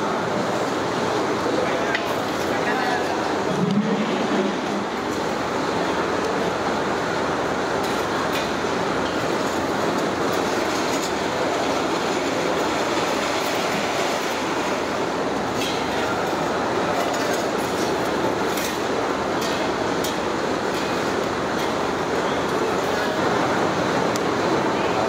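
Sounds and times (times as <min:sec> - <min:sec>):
steady loud rushing noise: 0:00.0 - 0:25.0.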